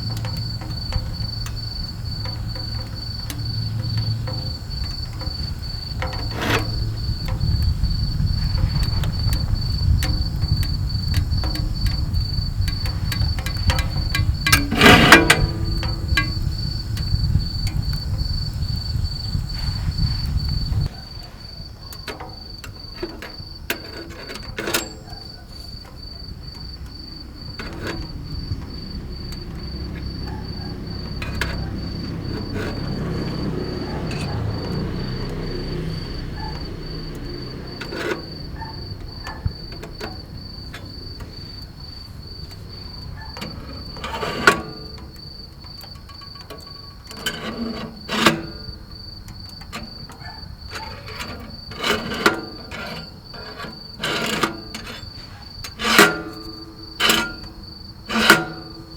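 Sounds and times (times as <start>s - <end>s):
cricket chirping: 0.0s - 58.9s.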